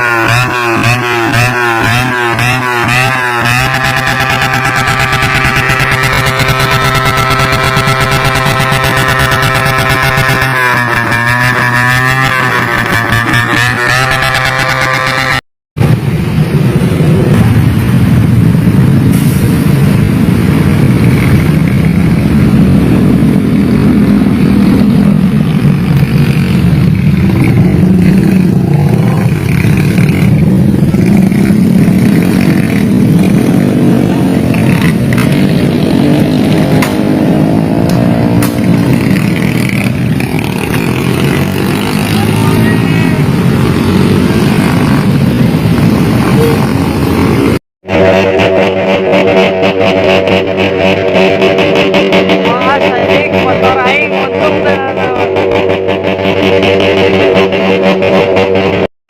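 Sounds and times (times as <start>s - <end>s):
motorcycle engines running: 0.0s - 58.9s.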